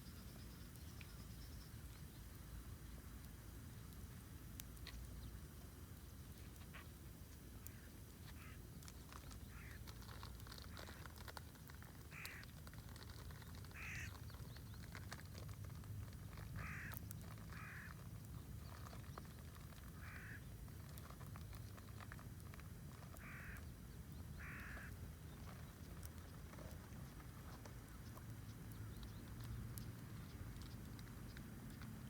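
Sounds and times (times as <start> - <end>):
campfire crackling and popping: 2.0 - 32.0.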